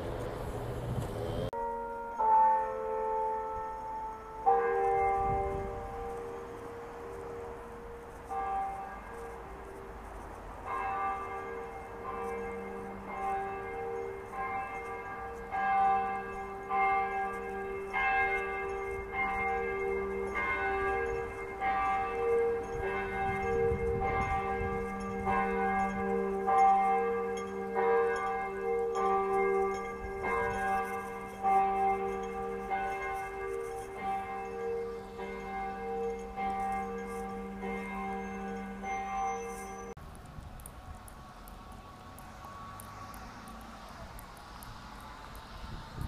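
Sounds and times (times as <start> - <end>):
church bells ringing: 1.5 - 40.0.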